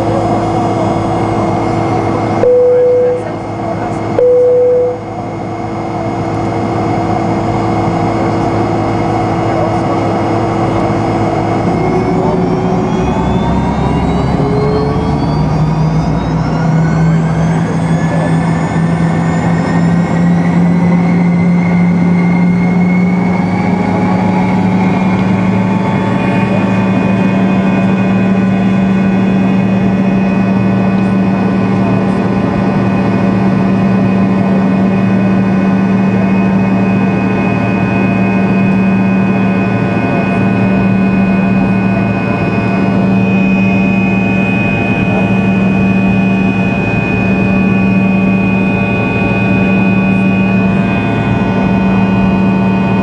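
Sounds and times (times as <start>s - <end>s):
jet engines spooling up: 0.0s - 53.0s.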